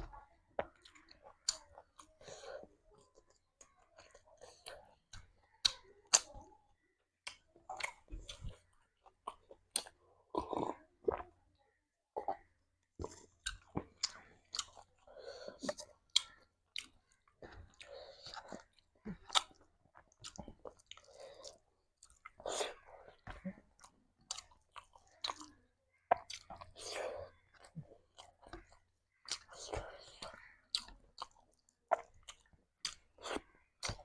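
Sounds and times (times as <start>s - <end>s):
person chewing: 0.1s - 6.5s, 7.2s - 11.3s, 12.2s - 34.0s.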